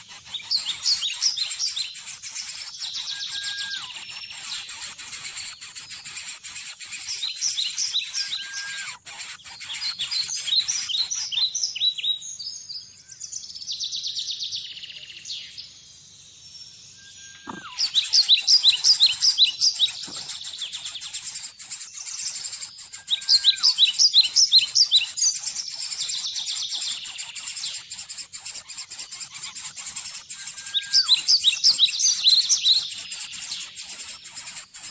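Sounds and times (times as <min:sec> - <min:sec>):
bird chirping: 0:00.0 - 0:34.9.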